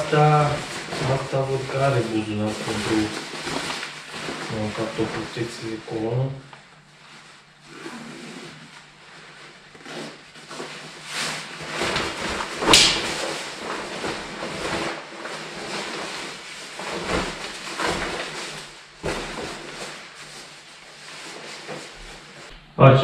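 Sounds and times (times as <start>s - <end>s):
fabric rustling and rubbing: 0.0s - 22.5s.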